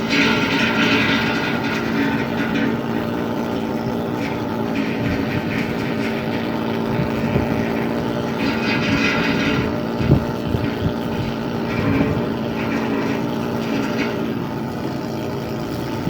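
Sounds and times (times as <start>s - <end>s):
ship machinery drone: 0.0s - 16.0s.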